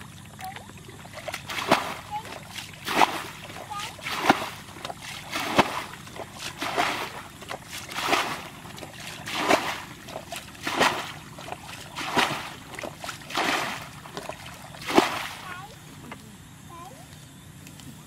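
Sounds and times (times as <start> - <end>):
water splashing from bucket: 0.0 - 15.8.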